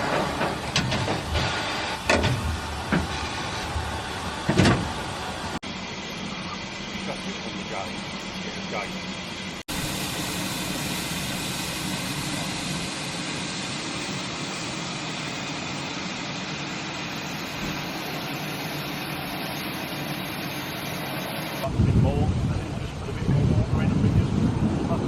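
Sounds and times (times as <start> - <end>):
train rumble and hiss: 0.0 - 25.0.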